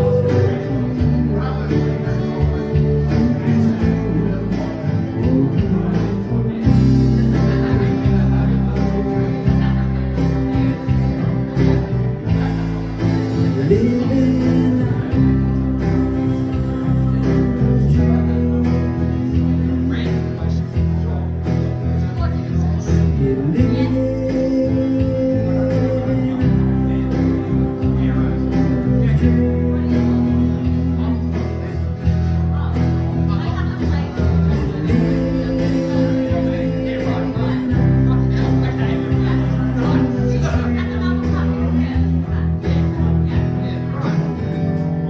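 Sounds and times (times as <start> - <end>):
acoustic guitar: 0.0 - 45.0
electric bass: 0.0 - 45.0
keyboard: 0.0 - 45.0.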